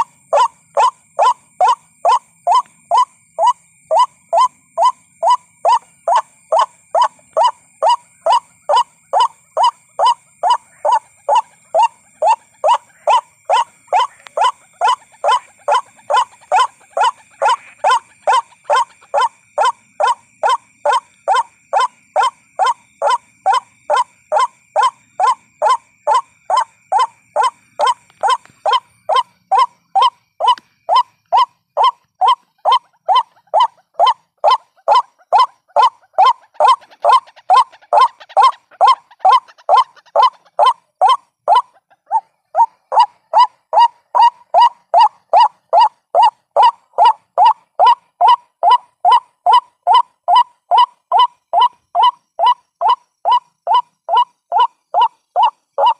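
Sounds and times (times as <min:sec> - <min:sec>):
waterhen calling: 0:00.0 - 0:55.9.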